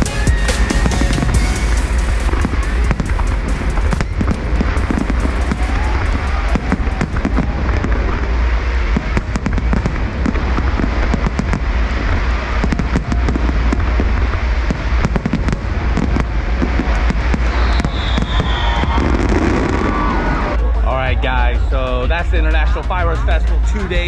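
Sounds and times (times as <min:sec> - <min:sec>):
fireworks bursting: 0:00.0 - 0:20.6
sharp bangs and crackles: 0:00.0 - 0:20.6.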